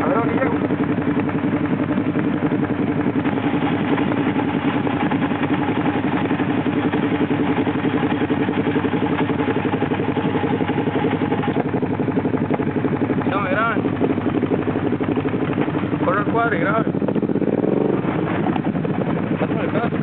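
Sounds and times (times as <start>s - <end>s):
atv engine idling: 0.0s - 20.0s.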